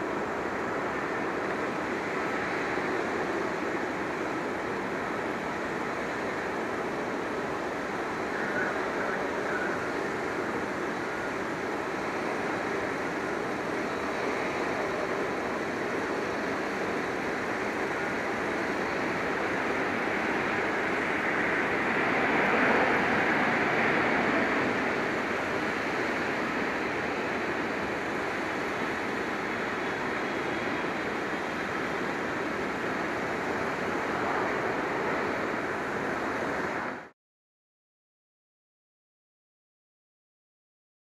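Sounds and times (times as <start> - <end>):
jet engines roaring: 0.0 - 37.1.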